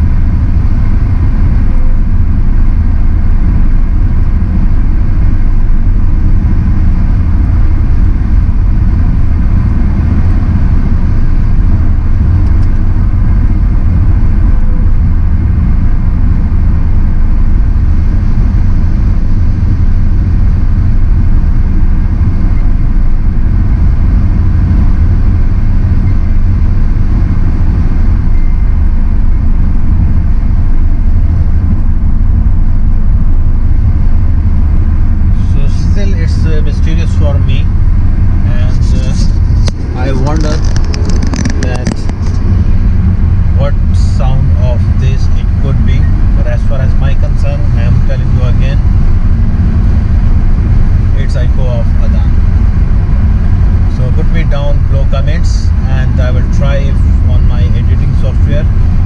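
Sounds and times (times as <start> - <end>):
car road and engine rumble: 0.0 - 59.0
faint steady whine: 0.0 - 59.0.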